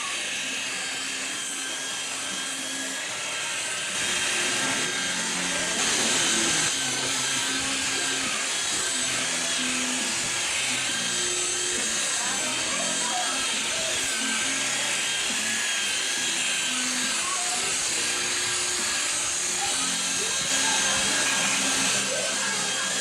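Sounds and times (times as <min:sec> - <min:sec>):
electric polisher whirring: 0:00.0 - 0:23.0.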